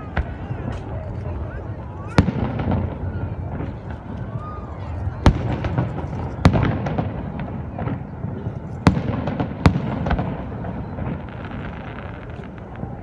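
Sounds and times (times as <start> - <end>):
small firework pops: 0.0 - 1.4, 2.0 - 13.0
fireworks loud bangs: 0.0 - 13.0.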